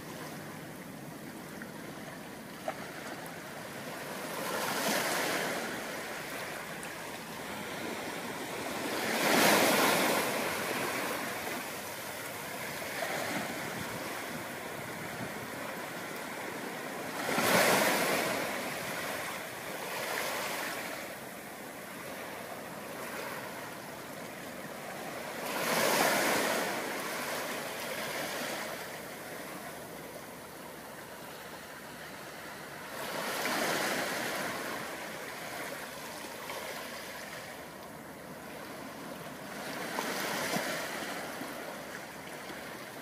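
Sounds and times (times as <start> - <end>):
small waves breaking on beach: 0.0 - 43.0.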